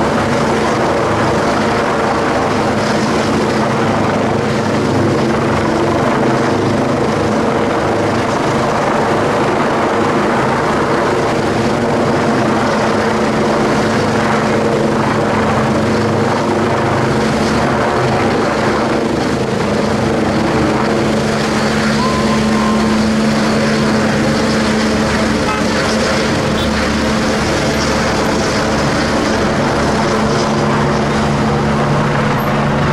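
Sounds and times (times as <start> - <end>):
helicopter hovering: 0.0 - 32.9.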